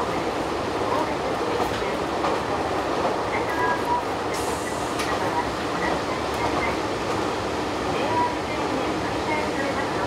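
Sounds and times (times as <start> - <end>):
diesel railcar running: 0.0 - 10.0.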